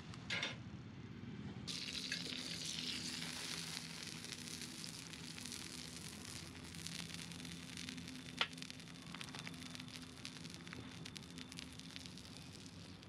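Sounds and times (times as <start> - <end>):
campfire crackling: 1.7 - 13.0
sausages sizzling in a pan: 1.7 - 13.0.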